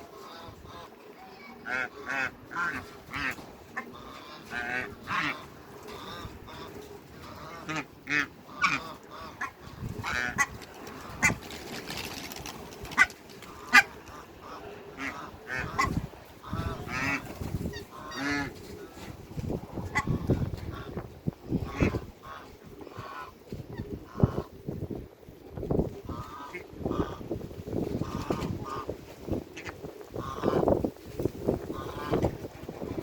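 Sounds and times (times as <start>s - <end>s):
ducks and geese calling: 0.0s - 25.0s, 25.7s - 33.0s.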